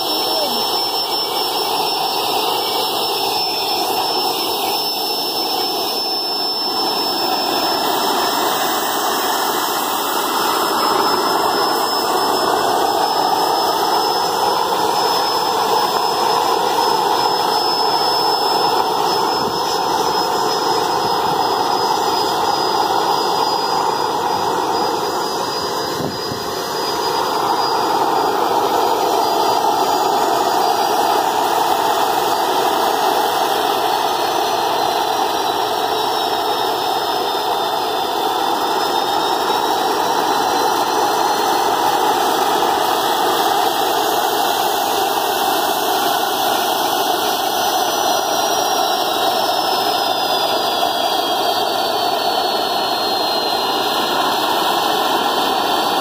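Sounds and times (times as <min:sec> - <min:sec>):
high turbine whistle: 0:00.0 - 0:56.0
jet engine roaring: 0:00.0 - 0:56.0.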